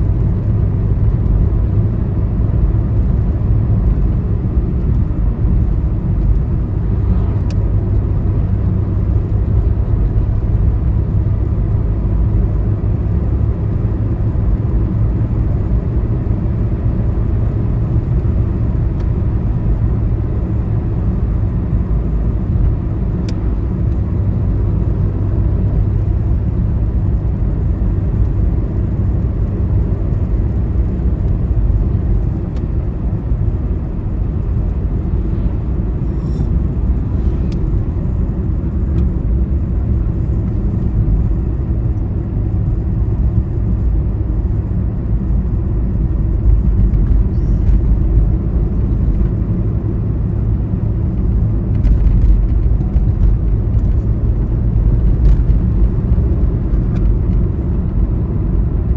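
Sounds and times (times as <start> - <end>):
vehicle engine and tyre rumble: 0.0 - 58.9.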